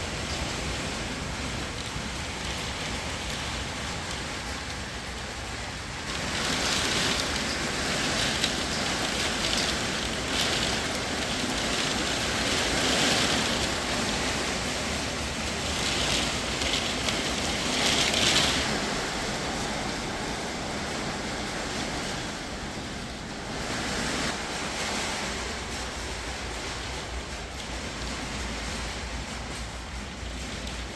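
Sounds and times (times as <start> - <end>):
blizzard wind gusting: 0.0 - 30.9
hail and sleet pattering: 0.0 - 30.9.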